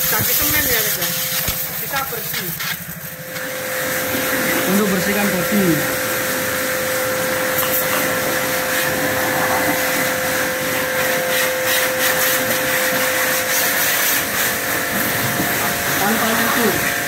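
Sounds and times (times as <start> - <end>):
pressure washer motor hum: 0.0 - 17.0
water jet hissing: 0.0 - 17.0.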